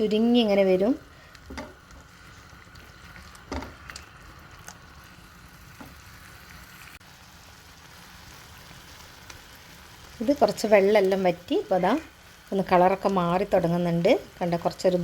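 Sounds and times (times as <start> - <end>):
mushrooms sizzling in a pan: 0.0 - 15.0.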